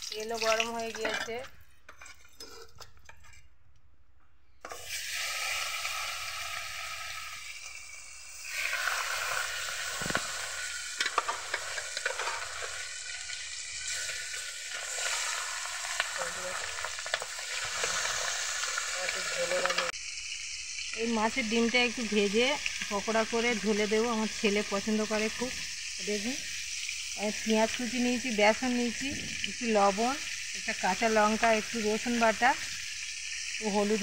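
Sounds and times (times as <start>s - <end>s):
fish sizzling in oil: 0.0s - 1.5s, 4.7s - 34.0s.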